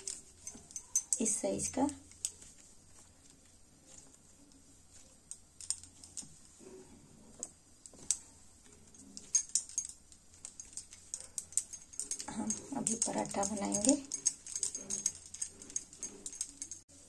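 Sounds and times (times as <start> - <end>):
bangles clinking: 0.0 - 17.0.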